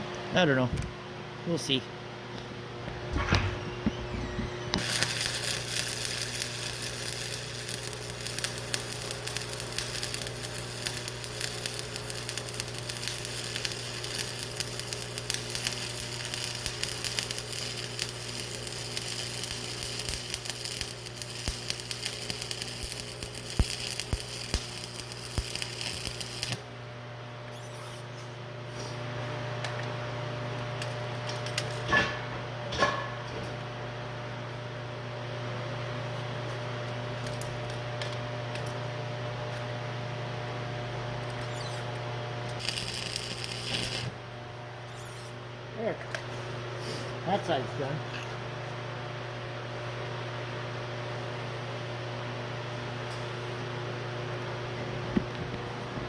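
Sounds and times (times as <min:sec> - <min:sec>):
steady hum: 0:00.0 - 0:56.0
arc welding crackling sizzle: 0:04.0 - 0:32.0, 0:35.5 - 0:56.0.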